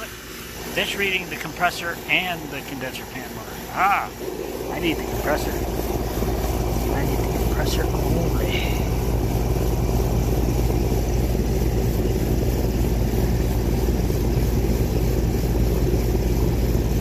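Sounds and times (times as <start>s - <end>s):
compressor low hum: 0.0s - 17.0s
fan air rushing: 0.0s - 17.0s.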